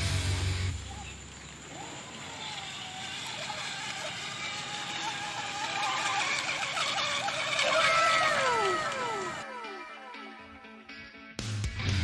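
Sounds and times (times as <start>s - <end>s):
model boat motor whine: 0.0s - 10.8s.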